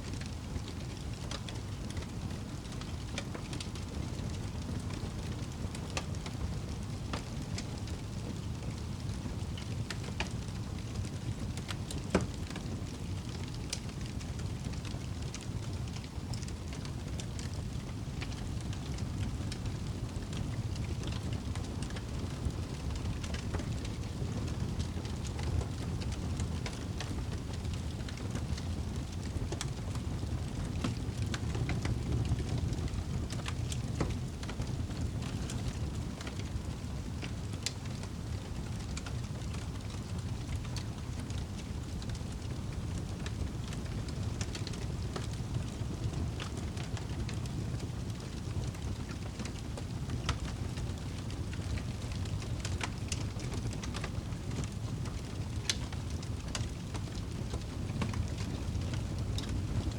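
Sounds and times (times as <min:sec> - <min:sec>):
campfire crackling and popping: 0:00.2 - 0:59.9.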